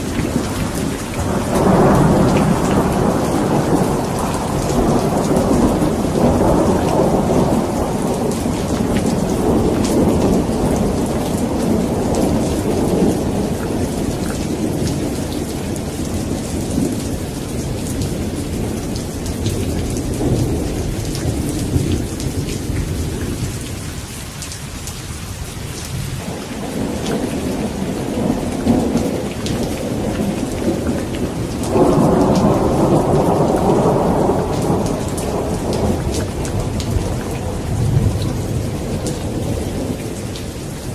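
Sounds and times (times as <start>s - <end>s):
rolling thunder: 0.0s - 24.1s, 24.9s - 40.9s
steady rain: 0.0s - 40.9s.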